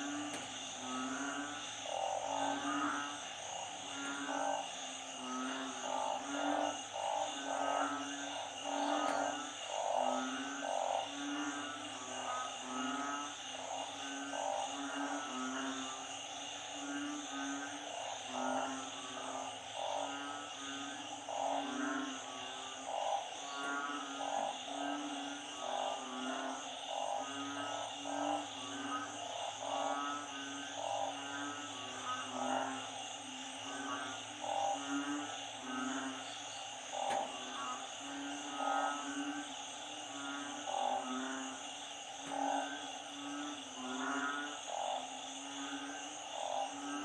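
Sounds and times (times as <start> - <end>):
frogs low moaning calls: 0.0 - 47.0
high insect drone: 0.0 - 47.0
small frogs pulsed calls: 0.0 - 47.0.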